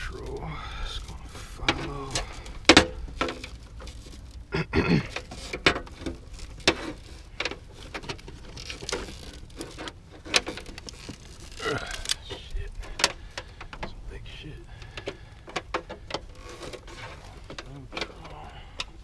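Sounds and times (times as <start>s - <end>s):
clicks and knocks from wiring work: 1.0s - 4.5s, 5.1s - 14.0s, 14.7s - 19.0s.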